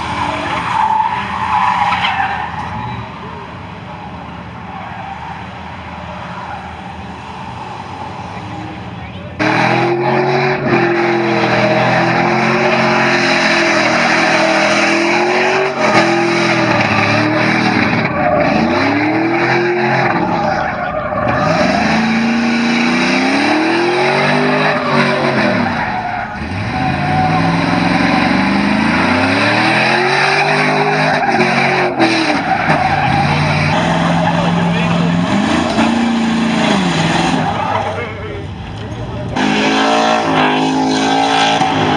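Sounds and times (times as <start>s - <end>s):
tires squealing: 0.0s - 41.9s
vehicle engine revving: 0.0s - 41.9s.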